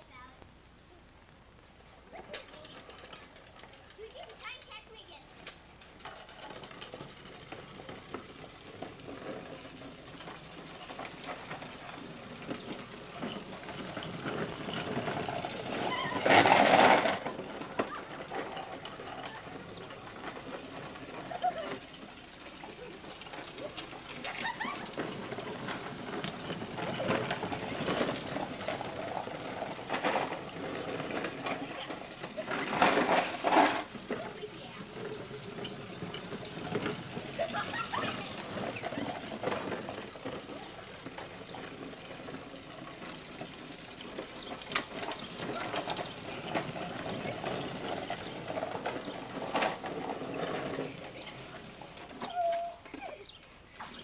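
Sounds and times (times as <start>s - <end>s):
plastic wheels rolling on asphalt: 0.0s - 54.0s.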